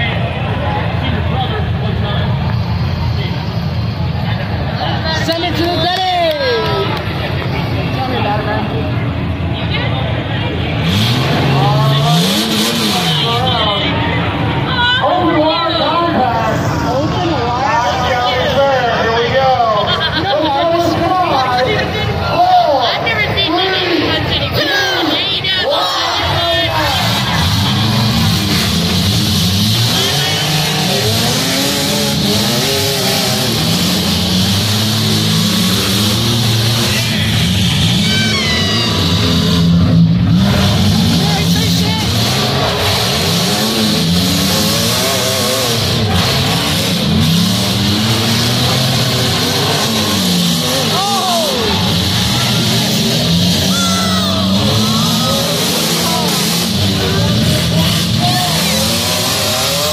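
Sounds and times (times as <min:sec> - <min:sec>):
car engines revving loudly: 0:00.0 - 0:59.9.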